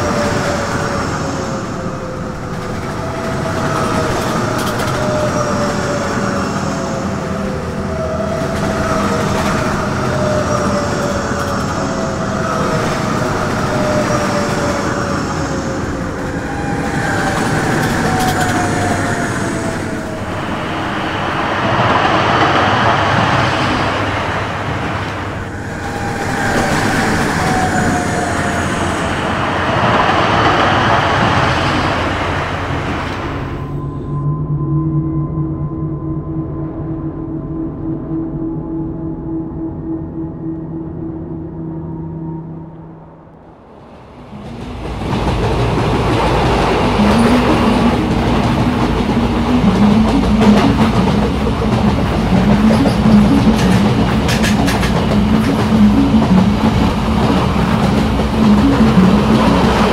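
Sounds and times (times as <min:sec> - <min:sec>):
high-speed trains rushing past: 0:00.0 - 0:34.6, 0:42.0 - 0:59.9
long falling whine: 0:00.0 - 0:59.9.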